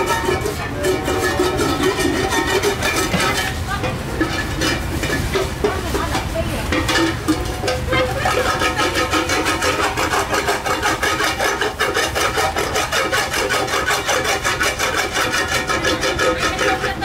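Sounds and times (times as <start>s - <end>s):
rapid back-and-forth scraping: 0.0s - 17.0s.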